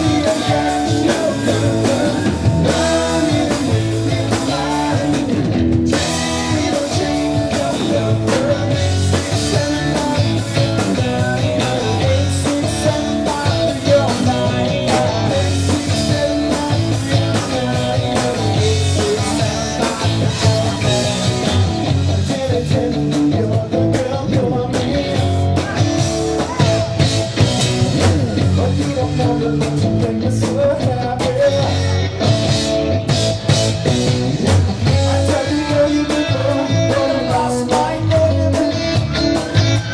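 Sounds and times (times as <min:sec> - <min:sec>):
man singing: 0:00.0 - 0:26.9, 0:27.6 - 0:32.5, 0:34.7 - 0:39.9
bass guitar: 0:00.0 - 0:39.9
drum kit: 0:00.0 - 0:39.9
electric guitar: 0:00.0 - 0:39.9.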